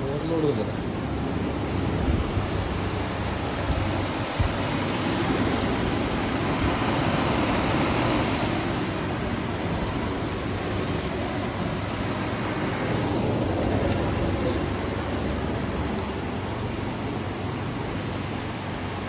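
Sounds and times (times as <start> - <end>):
dehumidifier fan running: 0.0 - 19.0.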